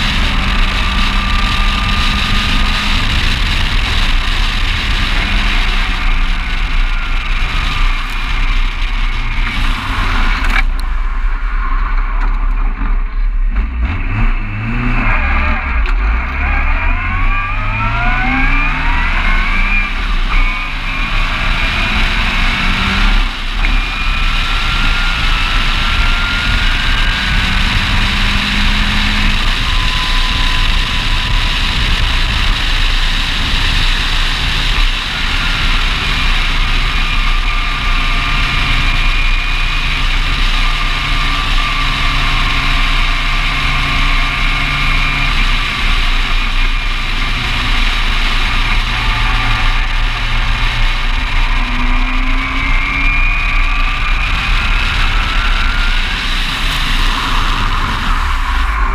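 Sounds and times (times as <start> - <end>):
sports car engine revving: 0.0 - 10.8, 13.1 - 58.9
wind rush on microphone: 0.0 - 13.1, 17.0 - 58.9.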